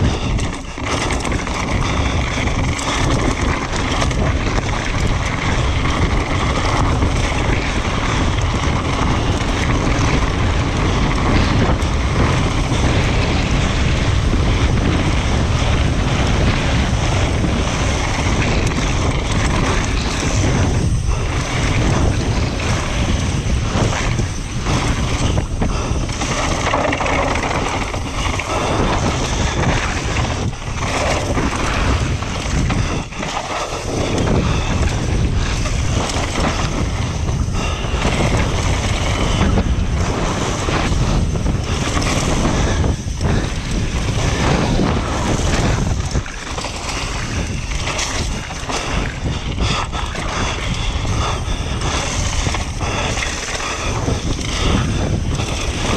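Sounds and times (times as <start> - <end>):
bike rattling over bumps: 0.0 - 55.9
tyre noise on dirt: 0.0 - 55.9
wind rush on microphone: 0.0 - 55.9.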